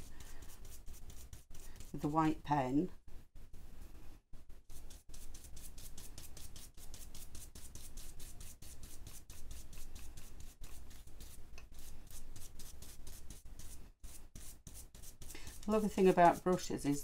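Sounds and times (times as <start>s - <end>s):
brush scrubbing on card: 0.0s - 2.0s, 4.7s - 17.0s.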